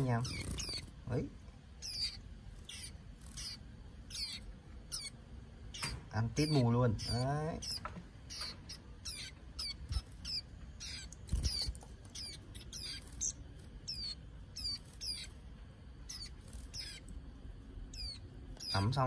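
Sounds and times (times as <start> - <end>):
birds calling high notes: 0.0 - 19.0.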